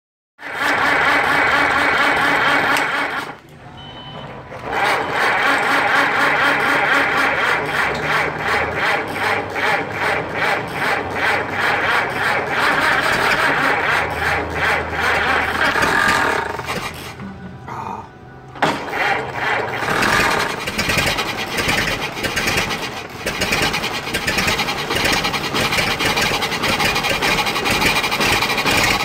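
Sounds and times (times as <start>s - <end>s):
old car engine running unevenly: 0.4s - 3.3s, 4.6s - 17.2s, 18.5s - 29.0s.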